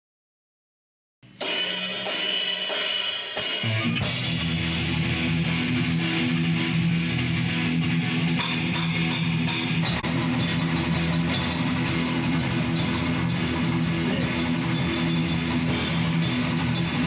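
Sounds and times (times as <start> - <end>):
drums and cymbals: 1.2 - 6.9, 8.2 - 17.0
bass guitar: 1.2 - 17.0
electric guitar chords: 1.3 - 17.0.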